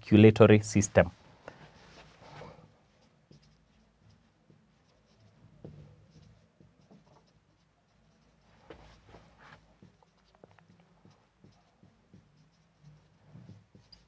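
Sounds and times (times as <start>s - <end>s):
marker pen writing on whiteboard: 1.5s - 14.0s.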